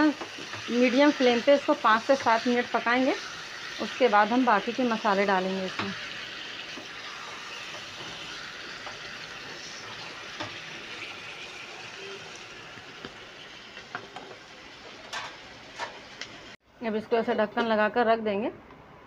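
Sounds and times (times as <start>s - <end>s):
chicken sizzling in a frying pan: 0.0s - 16.6s.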